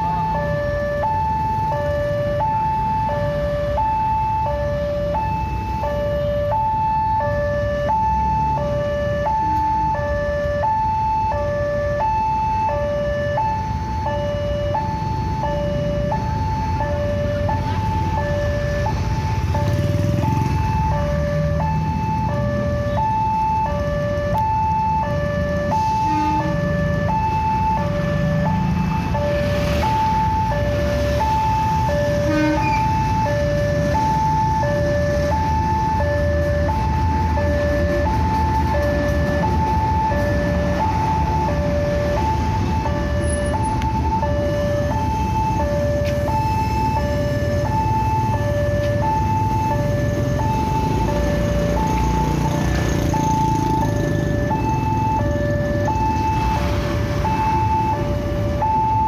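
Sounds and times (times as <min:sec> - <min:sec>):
idling road traffic rumble: 0:00.0 - 0:59.0
level crossing warning alarm: 0:00.0 - 0:59.0.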